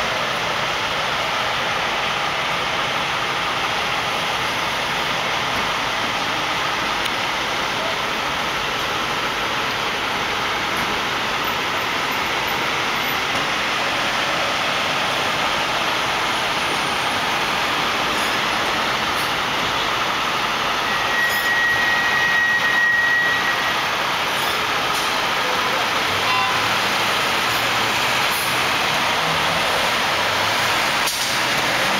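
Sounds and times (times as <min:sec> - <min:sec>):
high steady whine: 0:00.0 - 0:28.3
city street traffic: 0:00.0 - 0:31.9.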